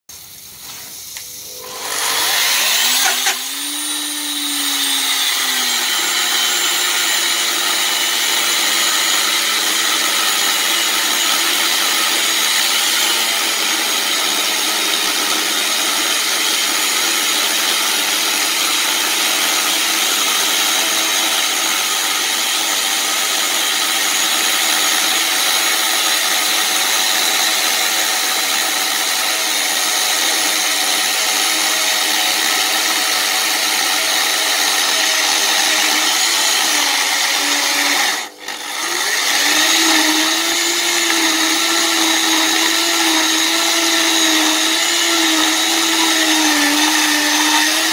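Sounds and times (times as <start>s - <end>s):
chainsaw cutting stone: 1.5s - 47.9s.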